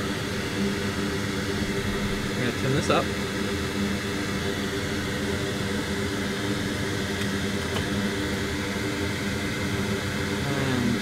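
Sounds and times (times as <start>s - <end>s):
fume extractor fan whirring: 0.0s - 11.0s.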